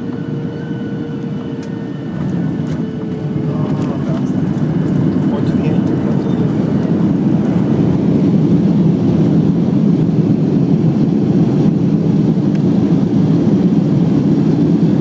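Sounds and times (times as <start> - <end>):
jet airliner cabin roar: 0.0 - 15.0.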